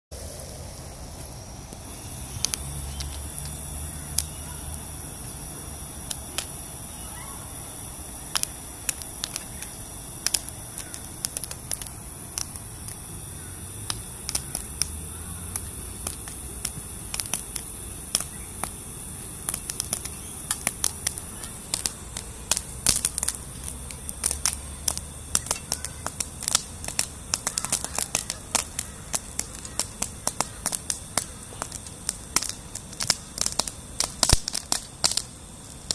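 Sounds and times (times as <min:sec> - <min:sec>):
gas stove hiss: 0:00.1 - 0:35.9
popcorn kernels popping: 0:01.7 - 0:06.8, 0:07.7 - 0:35.9.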